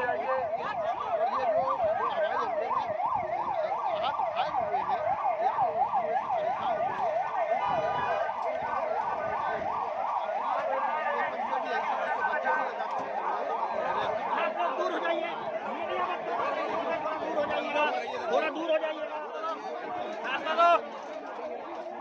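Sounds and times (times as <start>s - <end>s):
siren yelping: 0.0s - 20.6s.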